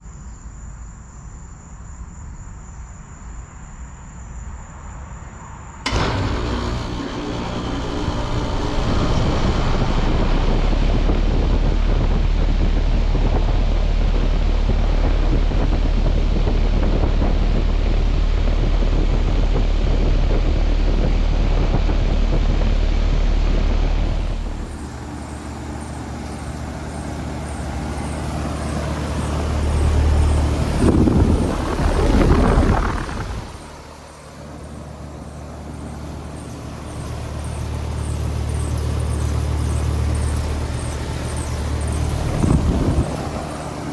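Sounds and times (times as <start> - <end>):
compressor hum: 5.8 - 43.9
condenser fan rushing: 5.8 - 43.9.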